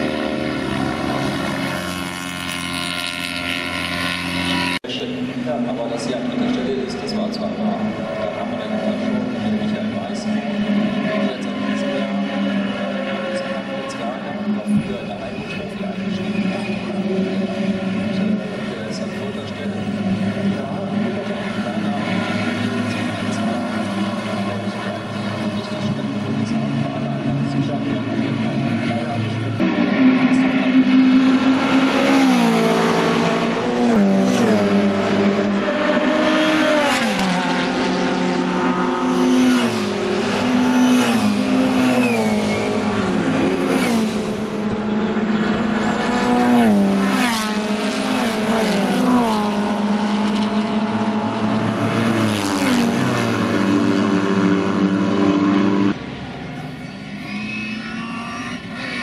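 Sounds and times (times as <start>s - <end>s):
racing cars passing by: 0.0s - 59.0s.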